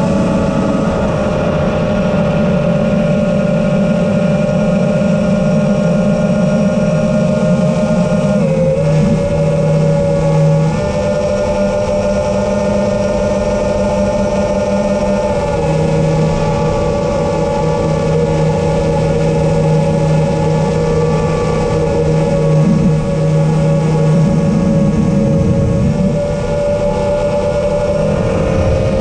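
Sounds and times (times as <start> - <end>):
small aircraft engine and propeller: 0.0 - 29.0.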